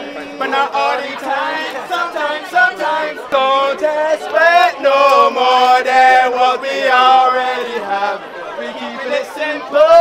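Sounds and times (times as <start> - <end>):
men singing together: 0.0 - 10.0.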